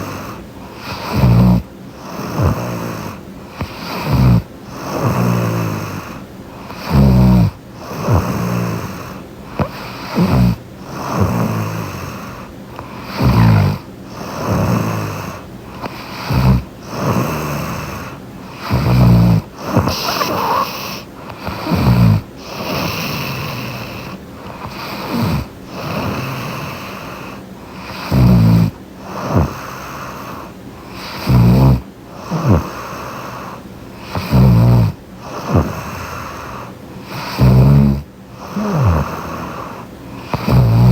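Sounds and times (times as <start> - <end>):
woman snoring loudly: 0.0 - 30.3, 31.0 - 40.9.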